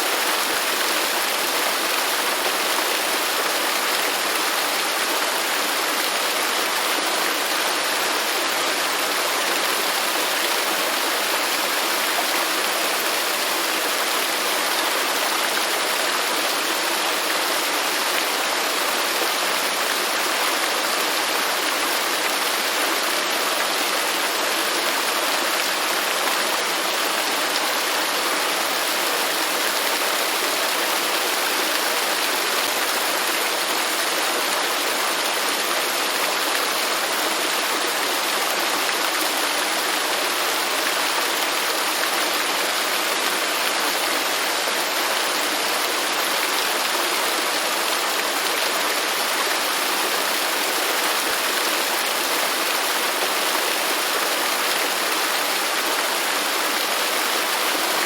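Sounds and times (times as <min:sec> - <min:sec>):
waterfall pouring and splashing: 0:00.0 - 0:58.0.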